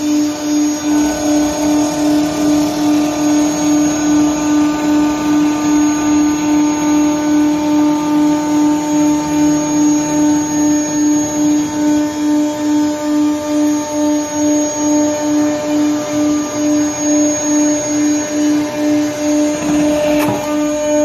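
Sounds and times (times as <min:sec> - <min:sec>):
lathe machine hum pulsing: 0:00.0 - 0:21.0.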